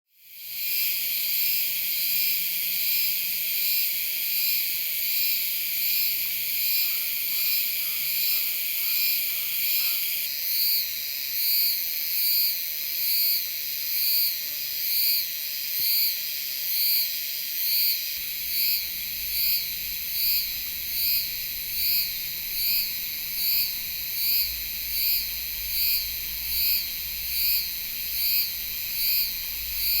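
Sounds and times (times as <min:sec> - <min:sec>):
cicada pulsing buzz: 0:00.1 - 0:30.0.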